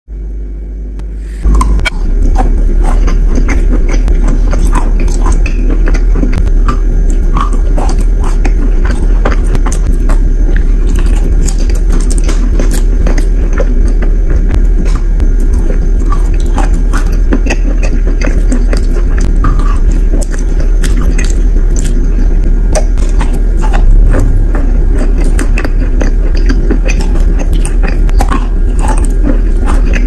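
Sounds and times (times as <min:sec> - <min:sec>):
steady low rumble: 0:00.1 - 0:30.0
chewing crunchy chalk: 0:01.4 - 0:30.0.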